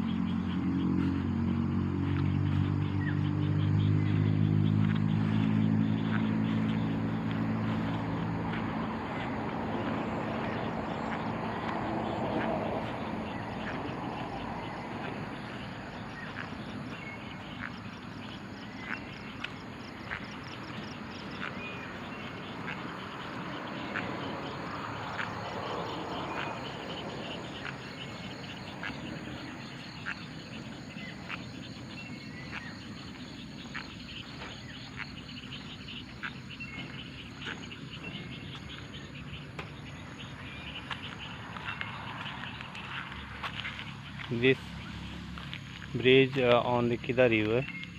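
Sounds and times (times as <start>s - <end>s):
sharp animal calls: 2.6s - 45.8s.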